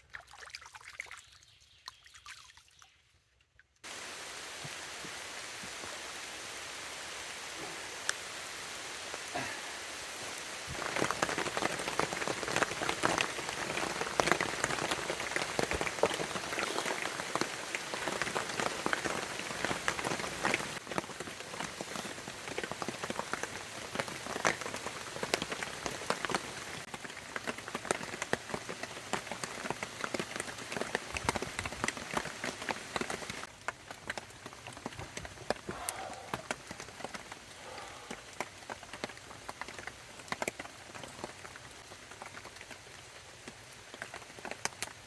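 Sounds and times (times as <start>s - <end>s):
rain drops striking a surface: 3.8s - 45.0s.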